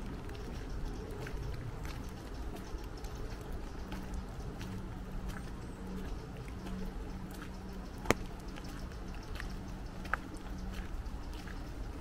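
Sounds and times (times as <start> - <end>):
rain falling in woodland: 0.0 - 12.0.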